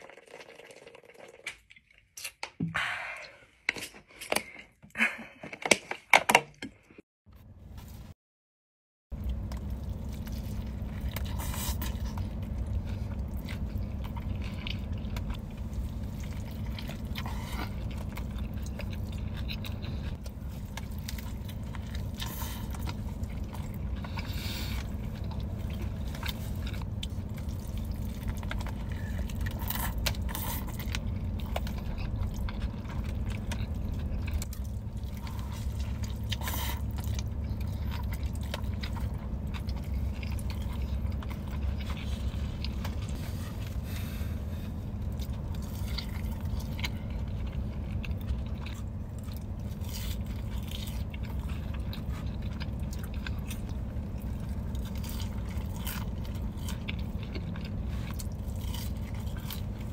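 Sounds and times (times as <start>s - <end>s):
steady low hum: 9.1s - 59.9s
wet messy chewing: 9.2s - 59.9s.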